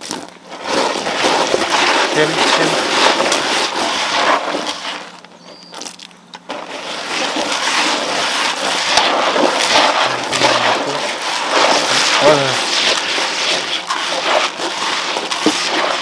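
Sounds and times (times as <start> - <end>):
feed pellets rattling in plastic basin: 0.0 - 16.0.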